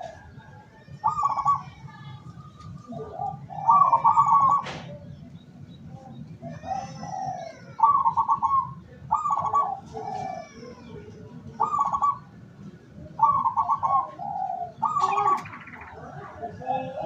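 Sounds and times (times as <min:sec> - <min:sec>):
dove cooing: 0:00.0 - 0:05.2, 0:06.3 - 0:12.4, 0:13.0 - 0:17.0.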